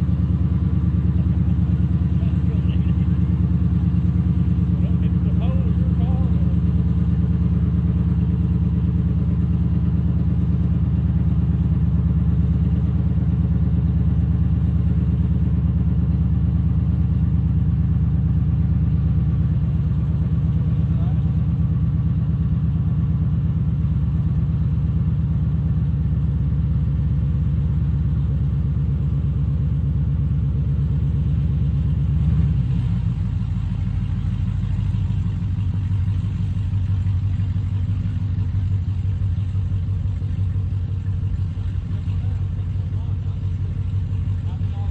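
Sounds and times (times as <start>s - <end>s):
car engine idling loudly: 0.0s - 44.9s.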